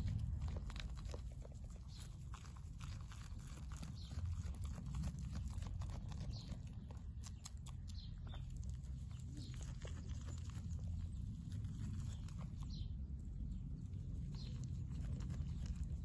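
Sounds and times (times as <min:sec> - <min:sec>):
goat tearing and chewing grass: 0:00.0 - 0:16.0
low steady rumble: 0:00.0 - 0:16.0.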